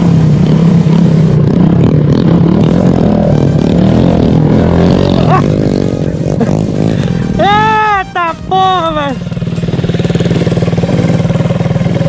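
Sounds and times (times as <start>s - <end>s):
motorcycle engine revving loud: 0.0s - 12.0s.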